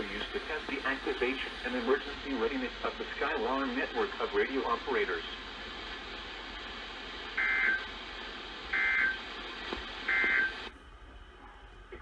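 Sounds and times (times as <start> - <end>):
radio hiss: 0.0 - 10.7.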